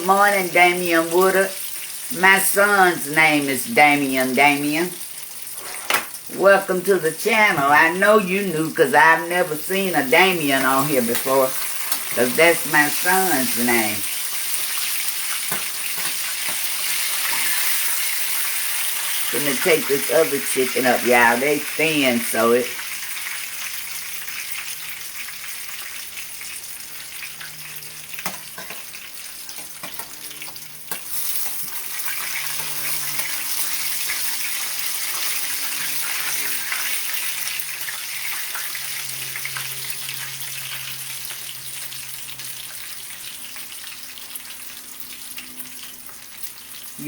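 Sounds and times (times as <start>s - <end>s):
chicken sizzling in hot oil: 0.0s - 6.7s, 7.8s - 47.0s.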